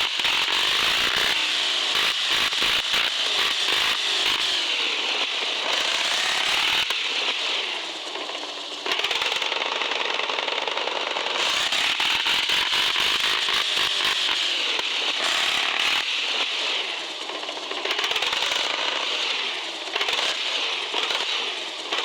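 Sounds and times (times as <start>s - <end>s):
toy truck motor whining and rattling: 0.0s - 22.0s.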